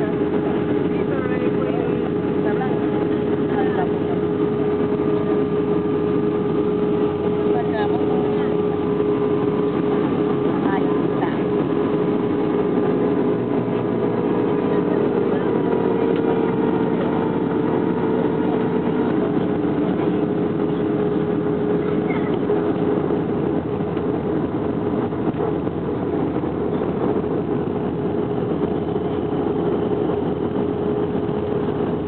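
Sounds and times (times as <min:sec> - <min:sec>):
airplane engines droning: 0:00.0 - 0:32.0
constant low hum: 0:00.0 - 0:32.0.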